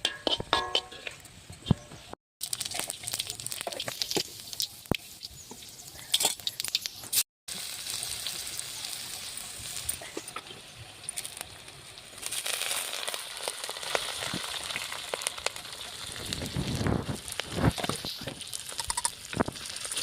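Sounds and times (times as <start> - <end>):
food sizzling in hot oil: 2.4 - 20.0.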